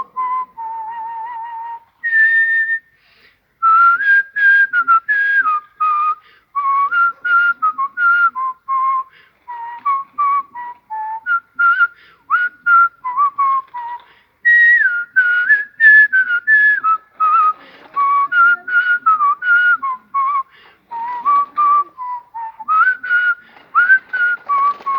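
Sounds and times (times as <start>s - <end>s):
man whistling a tune: 0.0s - 24.9s.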